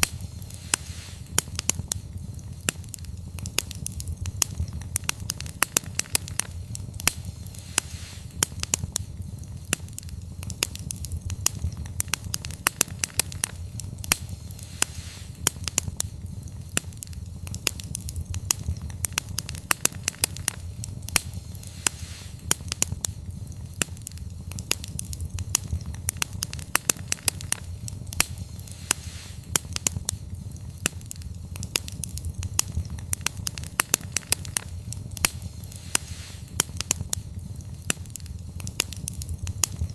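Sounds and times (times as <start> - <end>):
campfire crackling: 0.0 - 39.9
steady low rumble: 0.0 - 39.9.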